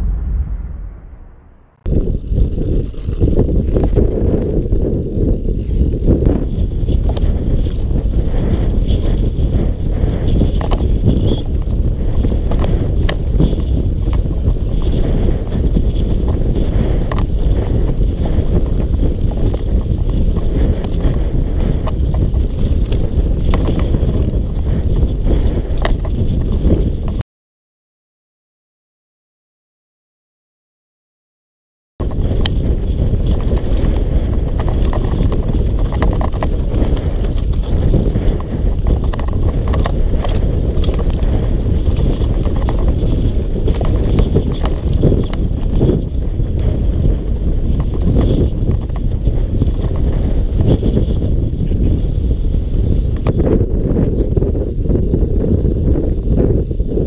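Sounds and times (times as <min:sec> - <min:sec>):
tyres rumbling over rough ground: 0:00.0 - 0:27.2, 0:32.0 - 0:57.0
bike clicks and knocks: 0:01.9 - 0:27.2, 0:32.0 - 0:57.0.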